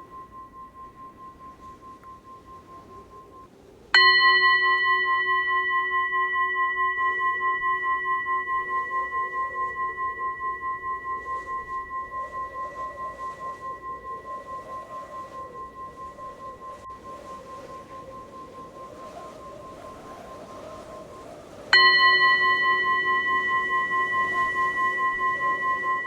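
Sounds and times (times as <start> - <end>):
struck metal bowl ringing: 0.0 - 26.0.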